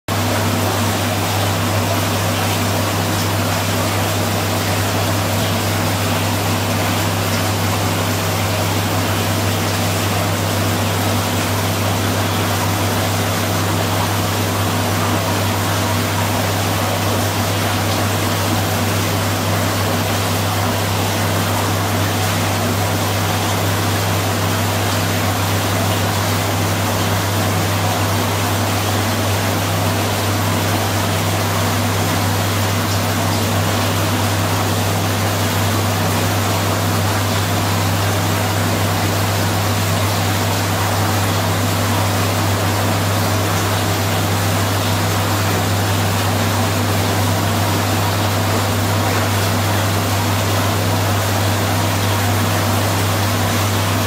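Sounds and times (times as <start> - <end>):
aquarium pump hum: 0.1 - 54.0.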